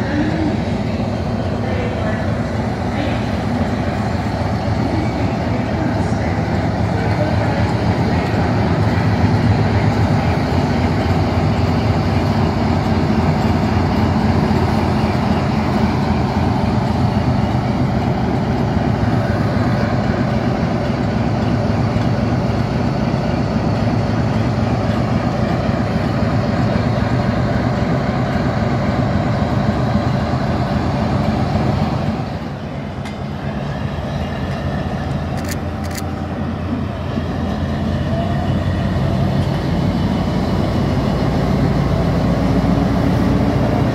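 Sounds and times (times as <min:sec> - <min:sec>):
diesel locomotive engine throbbing: 0:00.0 - 0:43.9.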